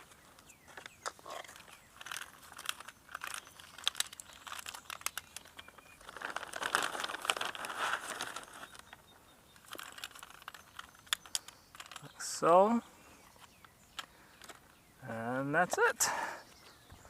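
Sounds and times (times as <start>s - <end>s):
peanuts clicking and rattling: 0.0s - 14.8s
peanuts rustling: 0.0s - 14.8s.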